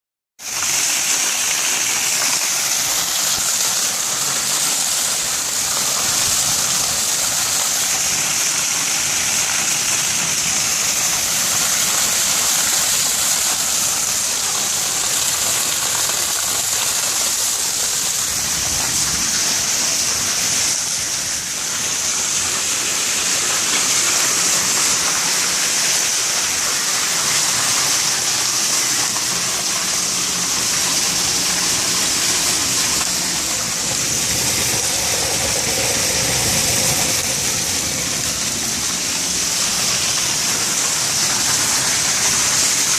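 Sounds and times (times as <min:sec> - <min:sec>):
heavy rain pouring: 0:00.4 - 0:42.9
water gushing and running off: 0:00.4 - 0:42.9.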